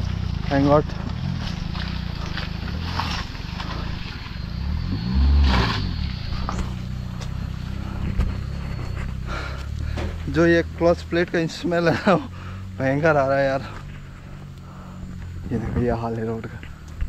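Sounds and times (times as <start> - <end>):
van engine revving under load: 0.0 - 17.0.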